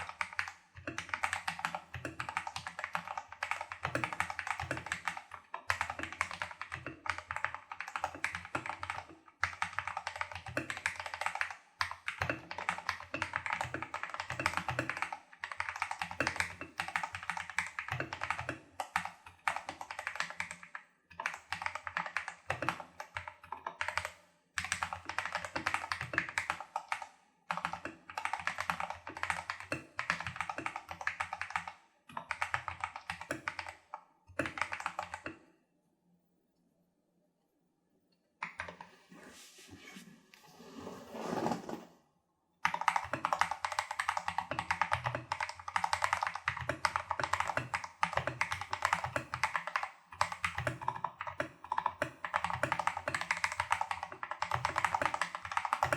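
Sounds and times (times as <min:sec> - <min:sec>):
mechanical keyboard typing: 0:00.0 - 0:35.3, 0:42.6 - 0:55.9.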